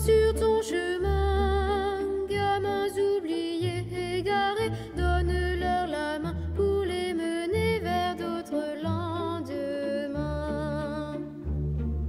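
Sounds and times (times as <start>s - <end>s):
low accompaniment: 0.0s - 12.0s.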